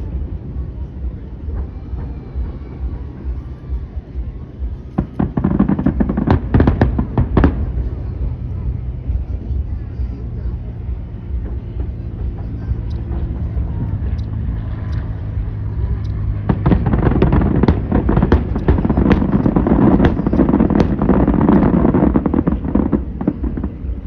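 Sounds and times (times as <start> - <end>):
fireworks bangs and crackles: 0.0 - 24.0
low hum: 0.0 - 24.0.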